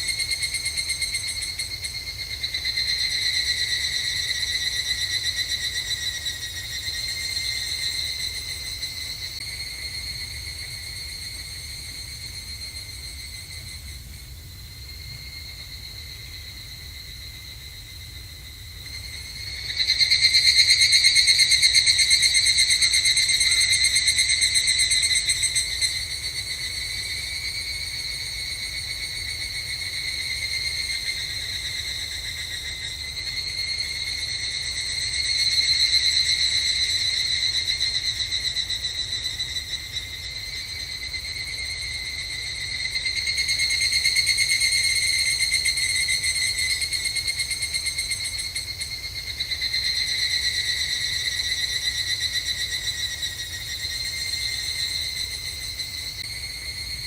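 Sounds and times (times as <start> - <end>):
cicadas calling in pulsed trills: 0.0 - 57.0.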